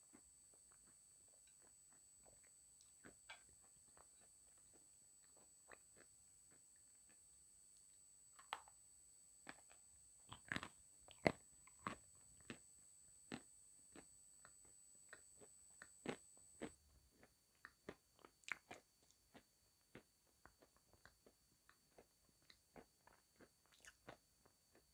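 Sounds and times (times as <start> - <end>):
faint high whine: 0.0 - 24.9
person chewing with sharp crunches: 0.8 - 7.2, 7.8 - 8.8, 9.4 - 12.6, 13.3 - 24.9.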